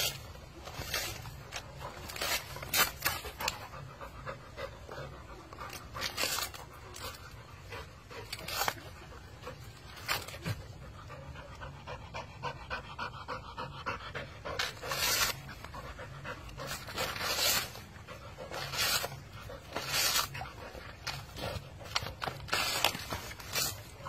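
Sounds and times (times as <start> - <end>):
dog ripping coconut husk: 0.0 - 4.0, 4.7 - 10.9, 14.4 - 24.0
dog panting: 0.0 - 24.0.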